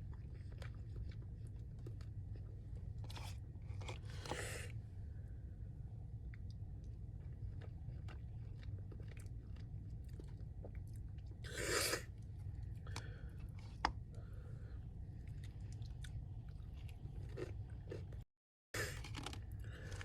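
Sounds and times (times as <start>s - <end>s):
chewing fried chicken: 0.0s - 4.4s, 6.0s - 18.2s, 18.8s - 20.0s
steady low hum: 0.0s - 18.2s.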